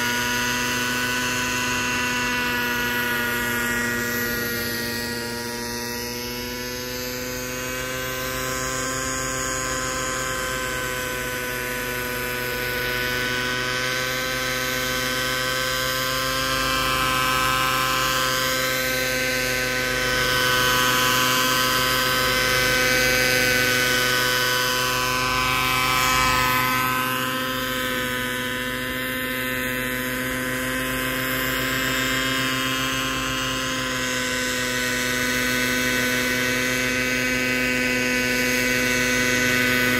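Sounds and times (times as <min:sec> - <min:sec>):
model helicopter engine and rotor: 0:00.0 - 0:39.9.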